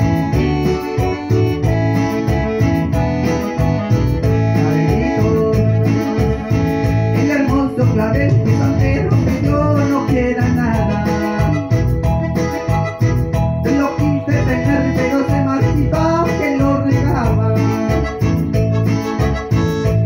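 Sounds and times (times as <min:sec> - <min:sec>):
acoustic-electric guitar: 0:00.0 - 0:20.0
electronic keyboard: 0:00.0 - 0:20.0.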